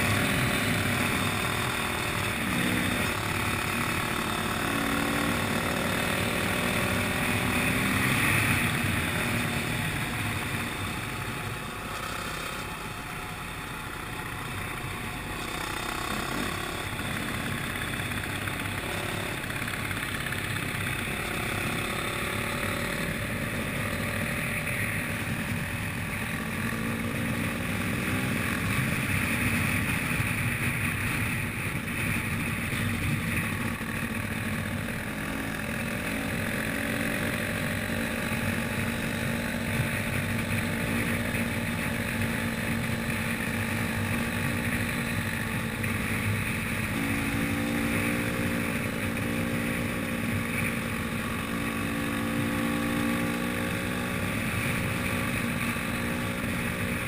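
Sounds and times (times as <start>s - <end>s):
dirt bike engines revving: 0.0s - 57.0s
wind and road noise: 0.0s - 57.0s.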